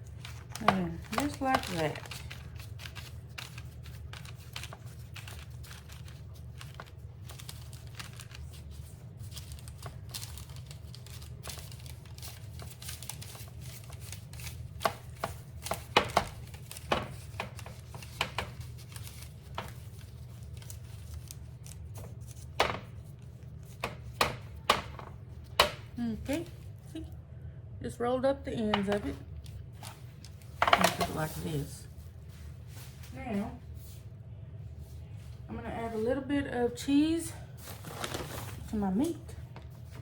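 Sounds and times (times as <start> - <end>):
parchment paper crinkling: 0.0 - 26.8, 28.7 - 33.2, 37.5 - 40.0.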